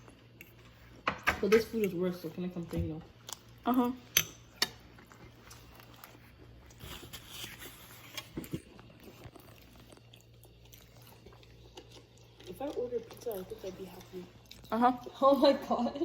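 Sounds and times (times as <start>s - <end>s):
person chewing food: 0.0s - 1.0s, 3.1s - 15.1s.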